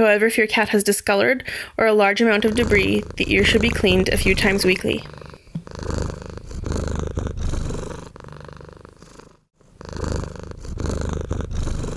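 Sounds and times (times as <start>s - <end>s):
cat purring: 2.2s - 11.9s.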